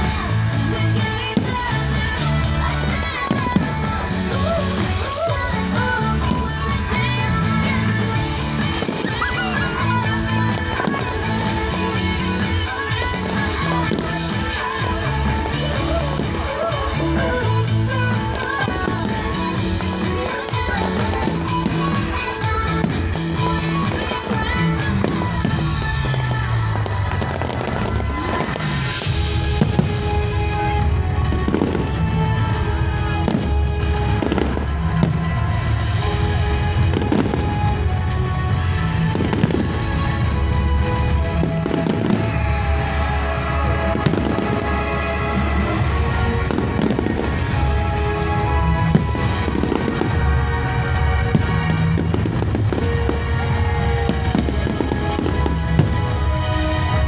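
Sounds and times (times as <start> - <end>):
fireworks bangs and crackles: 0.0 - 57.0
music playing: 0.0 - 57.0.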